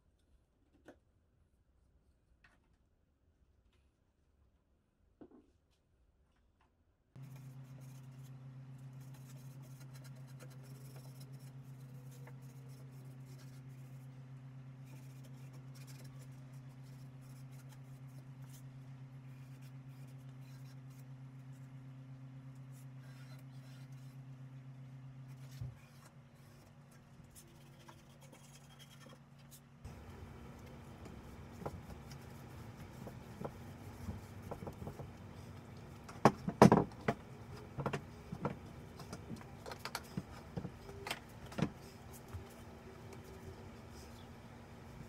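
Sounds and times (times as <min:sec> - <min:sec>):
steady low hum: 0:07.2 - 0:45.0.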